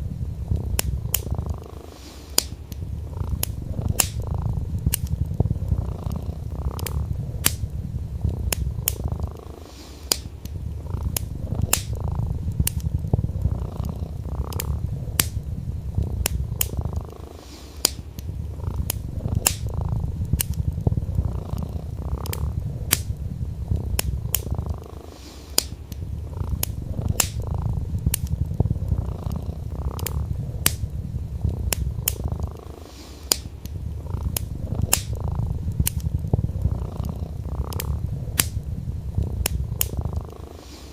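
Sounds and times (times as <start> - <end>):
cat purring: 0.0 - 40.9
wood fire crackling: 0.0 - 40.9.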